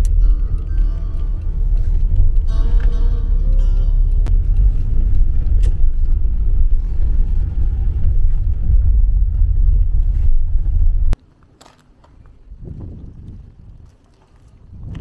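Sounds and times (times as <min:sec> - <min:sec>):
car engine and road rumble: 0:00.0 - 0:13.8.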